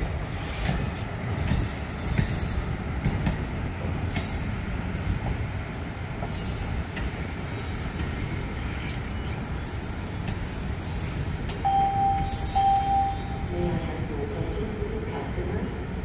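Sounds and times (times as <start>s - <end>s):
train wheels rumbling on rails: 0.0s - 14.1s.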